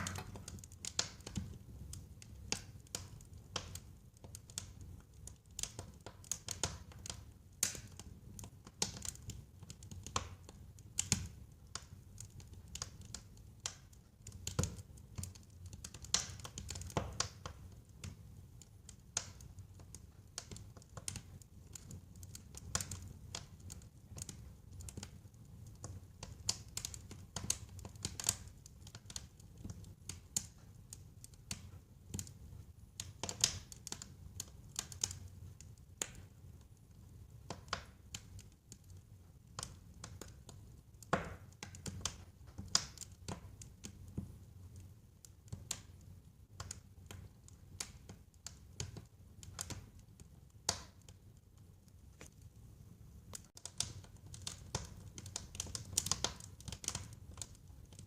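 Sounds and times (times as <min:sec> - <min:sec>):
low steady fire rumble: 0:00.0 - 0:58.0
wood fire crackling and popping: 0:00.0 - 0:58.0.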